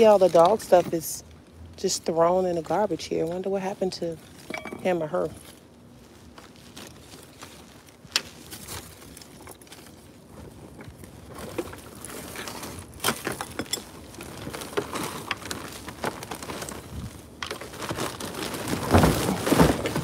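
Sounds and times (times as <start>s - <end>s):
plastic garbage bags rustling: 0.0s - 1.2s, 1.8s - 20.0s.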